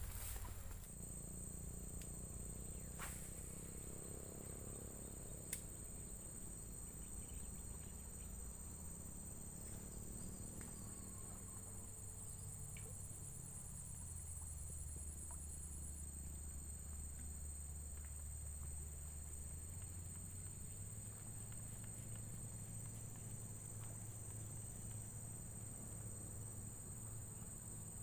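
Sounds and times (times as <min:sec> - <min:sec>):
rapidly pulsing insect trill: 0:00.0 - 0:28.0.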